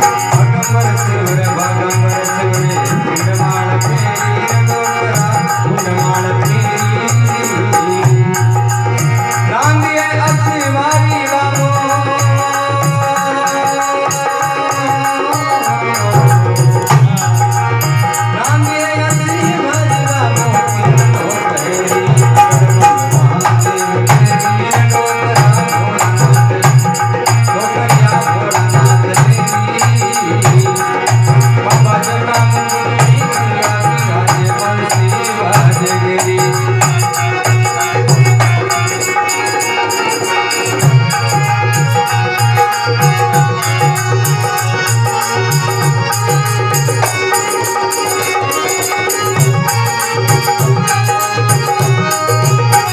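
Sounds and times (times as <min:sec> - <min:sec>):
rattling percussion: 0:00.0 - 0:52.9.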